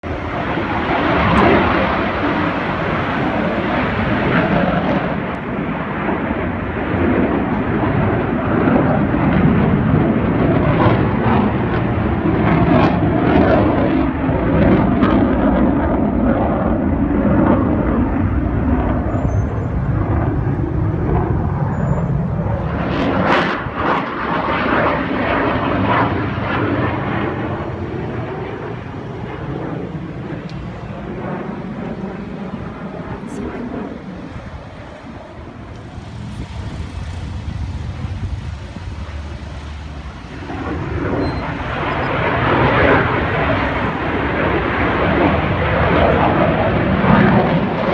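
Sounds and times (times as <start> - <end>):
jet roar in flight: 0.0 - 47.9.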